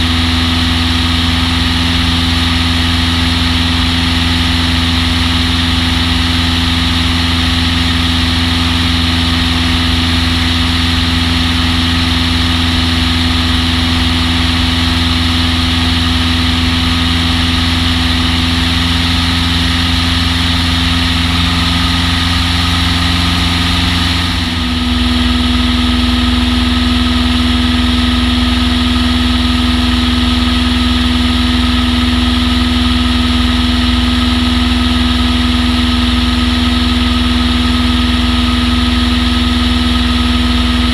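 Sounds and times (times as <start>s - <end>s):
aircraft engine and propeller: 0.0s - 40.9s.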